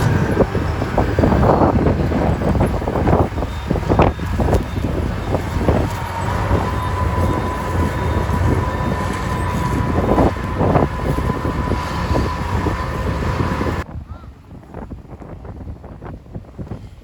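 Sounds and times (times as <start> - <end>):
diesel machinery rumbling: 0.0 - 13.9
high whine: 0.0 - 13.9.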